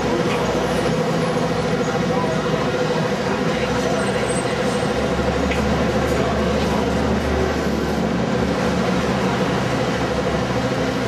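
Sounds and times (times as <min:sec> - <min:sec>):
bus engine rumbling: 0:00.0 - 0:11.0
street traffic noise: 0:00.0 - 0:11.0.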